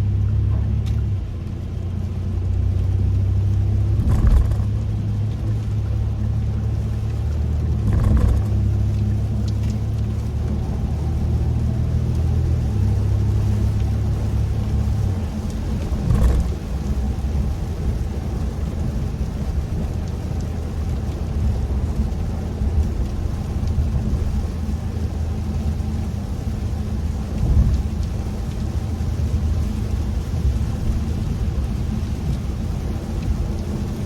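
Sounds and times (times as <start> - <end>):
road and engine drone: 0.0 - 34.0.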